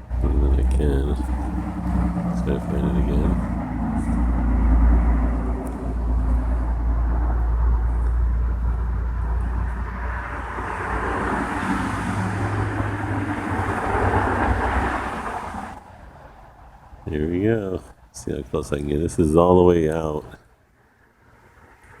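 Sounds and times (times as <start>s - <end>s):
vehicle passing: 0.0s - 17.9s
traffic rumble: 0.0s - 22.0s.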